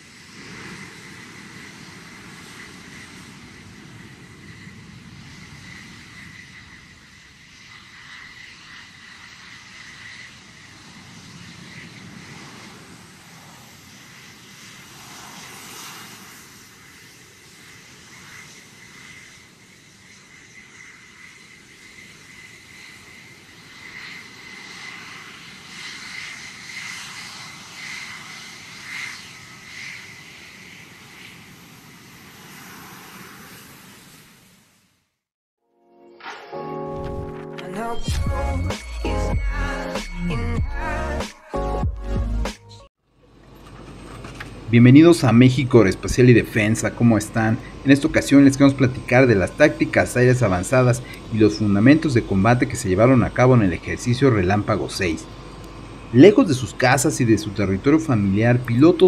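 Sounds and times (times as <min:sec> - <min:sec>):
jet engine whine: 0:00.0 - 0:35.3, 0:36.2 - 0:41.6, 0:42.5 - 0:59.0.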